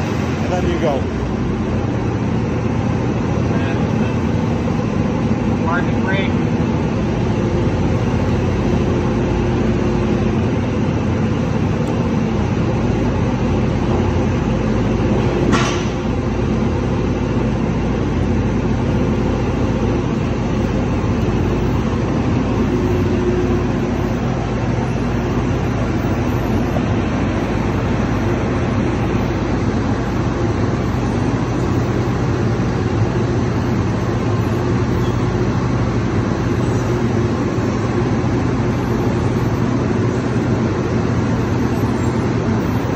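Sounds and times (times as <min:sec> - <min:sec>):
milling machine engine humming: 0:00.0 - 0:42.9.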